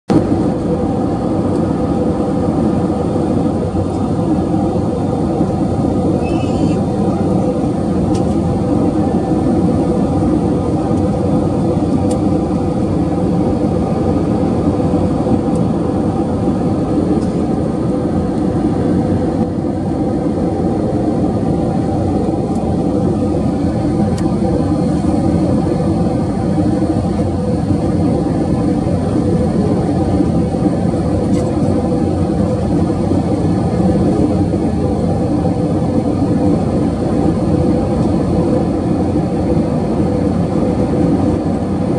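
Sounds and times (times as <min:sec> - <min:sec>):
airliner cabin rumble: 0:00.1 - 0:41.9.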